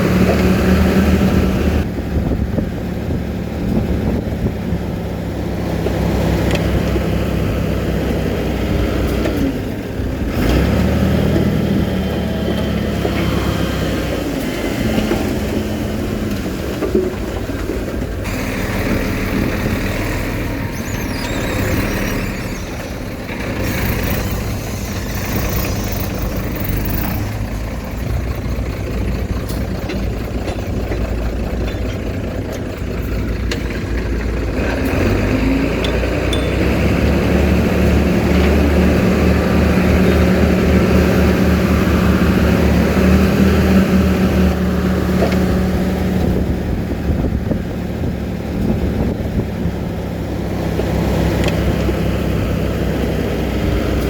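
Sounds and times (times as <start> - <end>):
heavy machinery diesel engine: 0.0 - 54.0.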